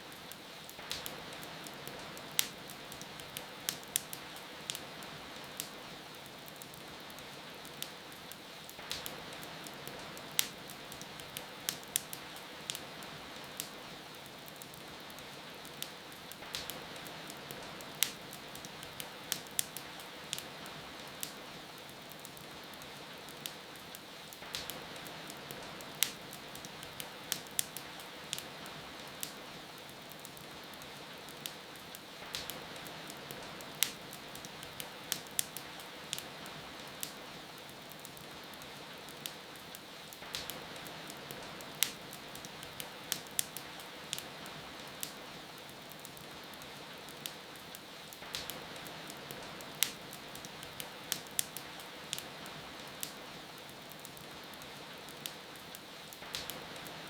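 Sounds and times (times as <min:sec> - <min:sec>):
falling rain hiss: 0:00.0 - 0:57.0
wood fire crackling: 0:00.0 - 0:57.0.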